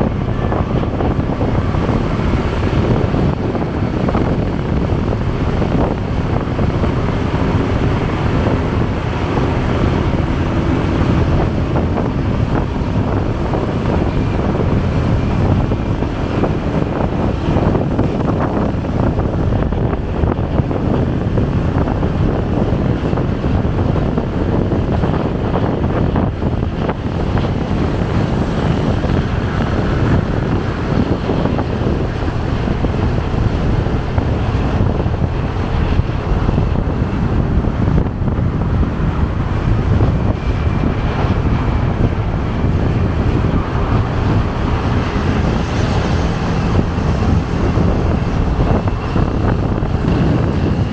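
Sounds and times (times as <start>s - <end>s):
motorcycle engine: 0.0s - 50.9s
road traffic: 0.0s - 50.9s
wind buffeting microphone: 0.0s - 50.9s.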